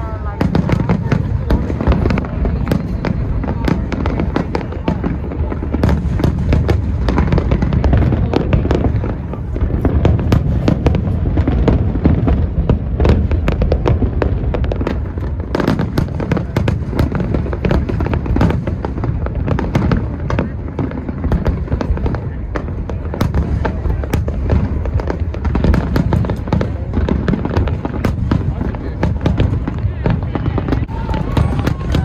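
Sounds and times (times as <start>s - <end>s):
fireworks reports and crackling: 0.0s - 32.0s.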